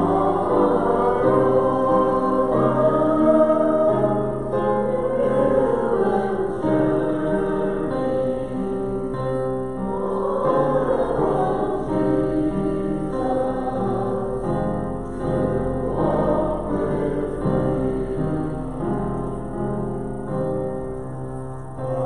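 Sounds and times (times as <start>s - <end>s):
congregation singing a hymn: 0.0s - 22.0s
keyboard accompaniment: 0.0s - 22.0s.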